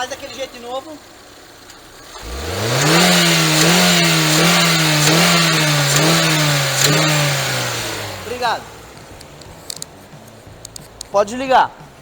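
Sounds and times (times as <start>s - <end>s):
engine knock rattle: 0.0s - 11.1s
car engine revving under load: 0.0s - 12.0s.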